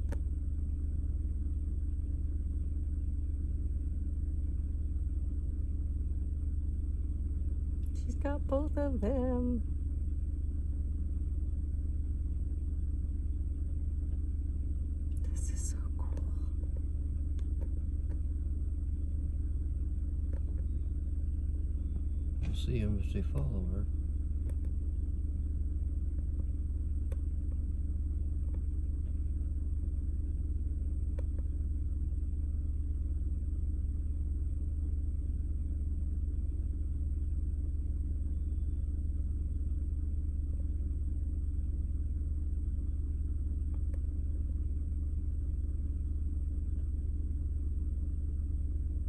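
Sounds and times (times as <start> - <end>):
vehicle engine low rumble: 0.0 - 49.0.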